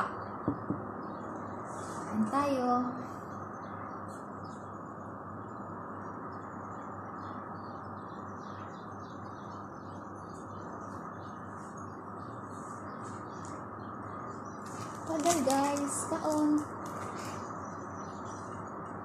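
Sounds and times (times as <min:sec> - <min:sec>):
steady background hum: 0:00.0 - 0:19.0
small birds chirping: 0:00.1 - 0:19.0.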